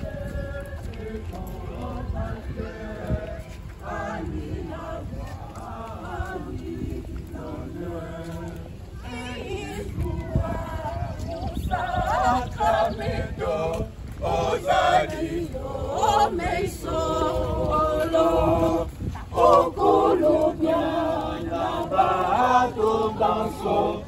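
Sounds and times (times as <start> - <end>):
crowd singing a hymn: 0.0 - 24.0.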